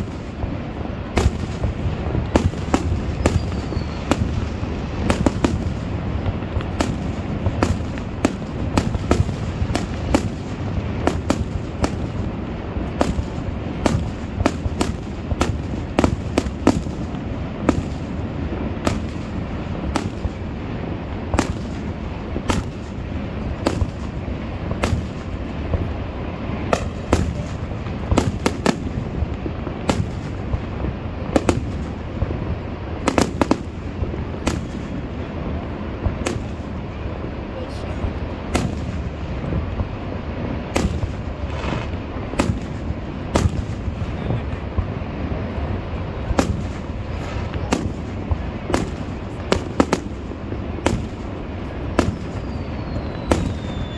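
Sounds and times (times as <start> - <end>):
firework bangs and pops: 0.0 - 37.1, 37.7 - 53.9.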